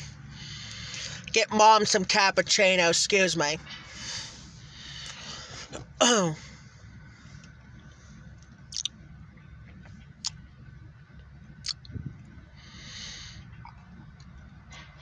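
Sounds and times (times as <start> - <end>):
low rumble inside vehicle cab: 0.0 - 15.0.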